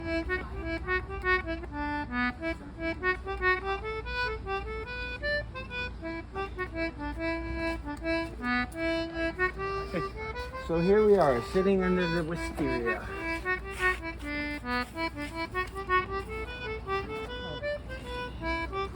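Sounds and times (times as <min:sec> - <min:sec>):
concertina folk melody: 0:00.0 - 0:18.9.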